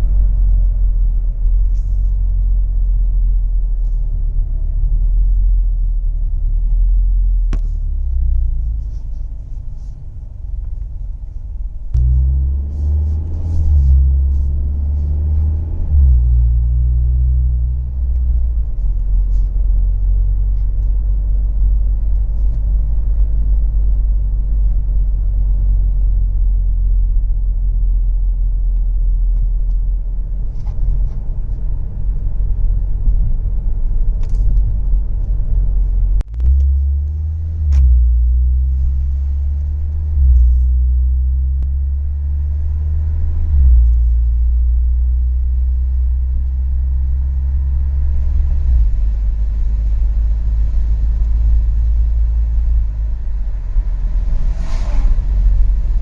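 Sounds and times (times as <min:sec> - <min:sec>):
car exhaust rumble: 0:00.0 - 0:56.0.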